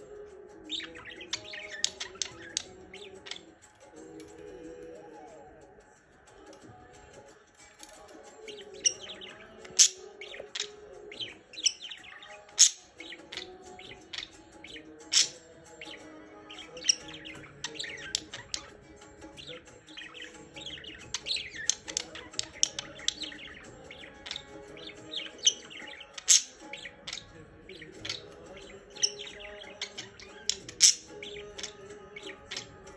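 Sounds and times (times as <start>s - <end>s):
budgerigars chirping and warbling: 0.0s - 5.0s, 8.0s - 32.9s.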